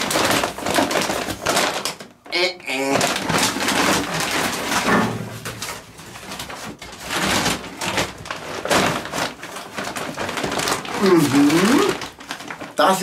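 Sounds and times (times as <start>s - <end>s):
bags rustling and crinkling: 0.0s - 13.0s.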